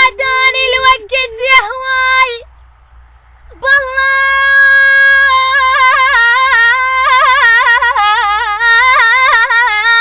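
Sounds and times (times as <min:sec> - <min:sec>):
girl singing unaccompanied: 0:00.0 - 0:02.5, 0:03.5 - 0:10.0.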